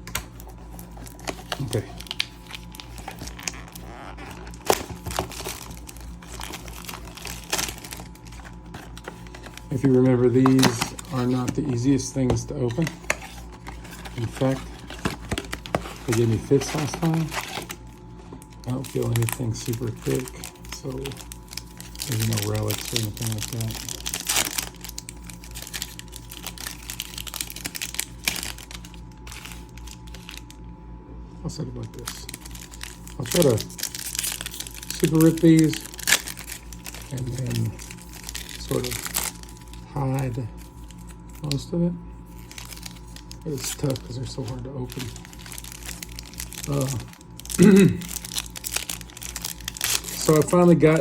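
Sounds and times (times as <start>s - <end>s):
plastic wrap crinkling and tearing: 0.0s - 30.6s, 31.9s - 41.6s, 42.2s - 51.0s.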